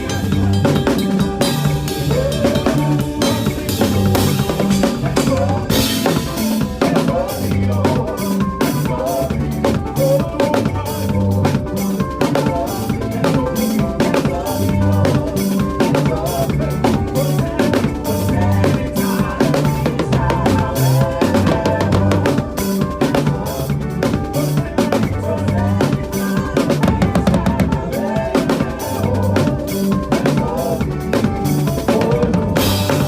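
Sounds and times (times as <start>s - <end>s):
band backing of bass and keys: 0.0s - 33.0s
drum kit playing fast groove: 0.0s - 33.0s.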